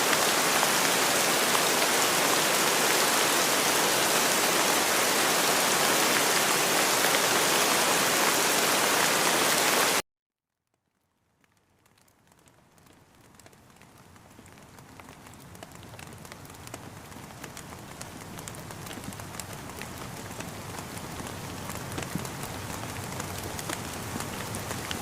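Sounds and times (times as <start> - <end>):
steady rain falling: 0.0 - 10.0, 10.9 - 25.0.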